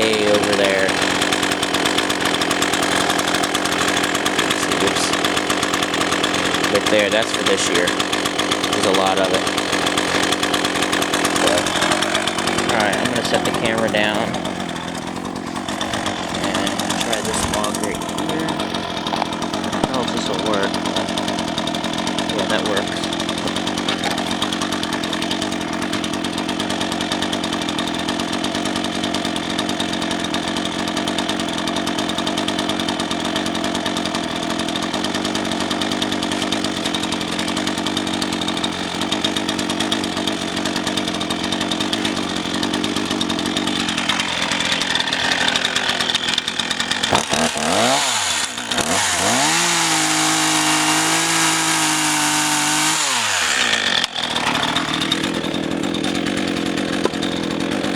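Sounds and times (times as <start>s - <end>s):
chainsaw cutting log: 0.0s - 57.9s.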